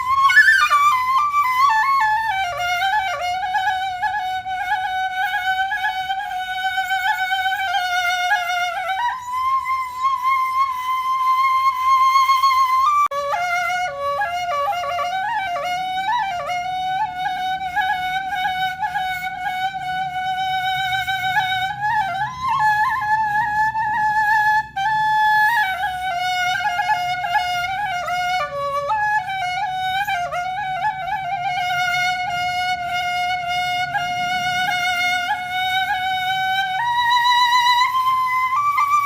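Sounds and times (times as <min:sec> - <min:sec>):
flute melody with ornamented turns: 0:00.0 - 0:39.0.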